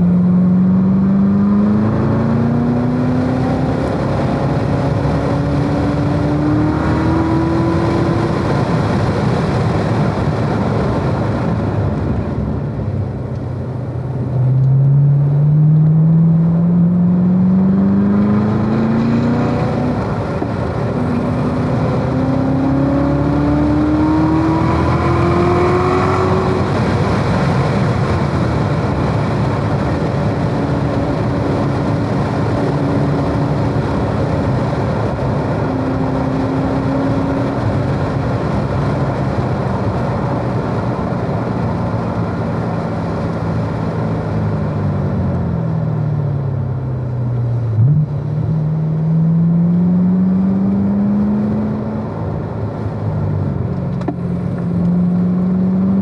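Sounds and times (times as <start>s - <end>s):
car engine accelerating: 0.0s - 56.0s
wind and tyre noise: 0.0s - 56.0s.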